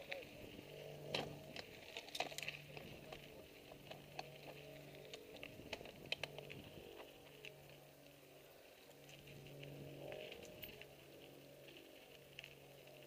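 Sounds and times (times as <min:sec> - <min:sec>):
bike tyres rattling on gravel: 0:00.0 - 0:13.0
faint low hum: 0:00.0 - 0:13.0.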